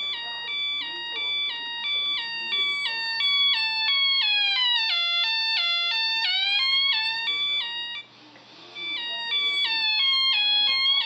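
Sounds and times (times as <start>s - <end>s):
electronic siren beeping high and low: 0.0s - 8.1s, 8.8s - 11.0s.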